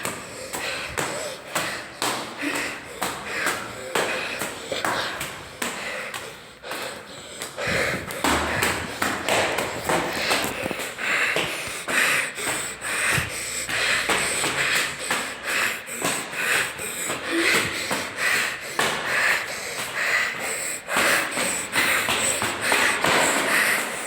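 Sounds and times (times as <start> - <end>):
footsteps tapping: 0.0 - 24.0
person panting heavily: 0.0 - 24.0.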